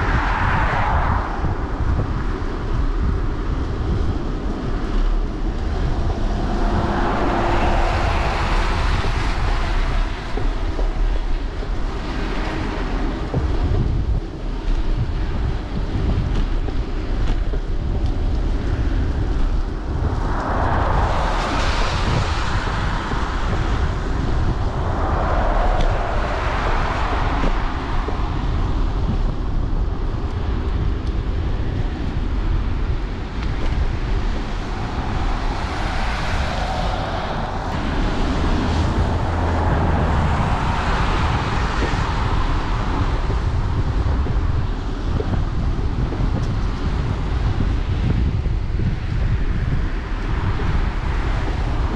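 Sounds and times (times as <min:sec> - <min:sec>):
traffic passing on wet road: 0:00.0 - 0:51.9
wind rumbling on microphone: 0:00.0 - 0:51.9.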